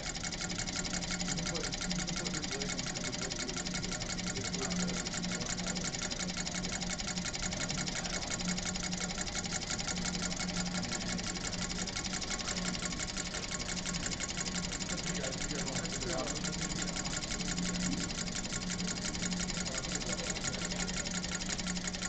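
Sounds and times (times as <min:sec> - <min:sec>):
engine mechanical clatter: 0:00.0 - 0:22.0
steady low hum: 0:00.0 - 0:22.0
whir of spinning fan blades: 0:00.0 - 0:22.0.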